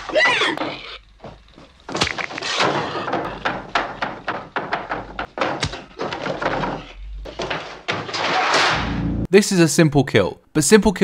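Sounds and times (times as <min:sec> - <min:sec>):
thuds: 0:00.1 - 0:09.2.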